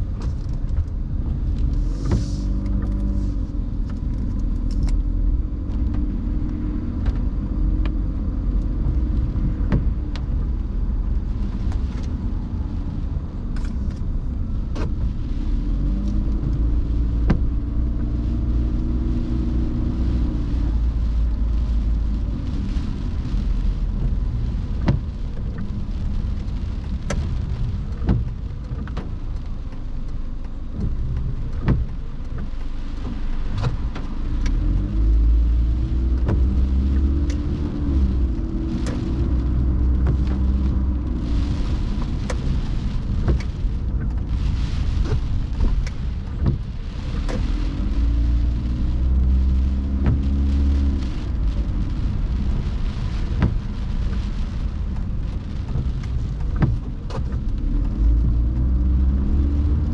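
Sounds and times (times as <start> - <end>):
car engine and road rumble: 0.0 - 59.9
tyres hissing on wet pavement: 0.1 - 59.9.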